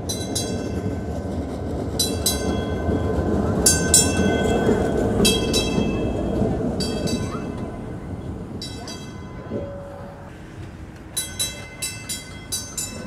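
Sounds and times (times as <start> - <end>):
streetcar bell clanging: 0.0 - 13.0
streetcar rumbling on rails: 0.0 - 13.0.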